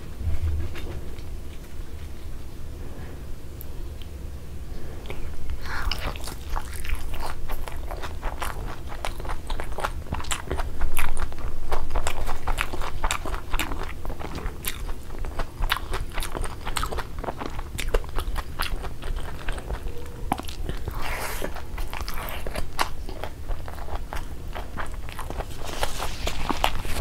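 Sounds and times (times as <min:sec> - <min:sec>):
chewing and crunching food: 0:04.8 - 0:27.0.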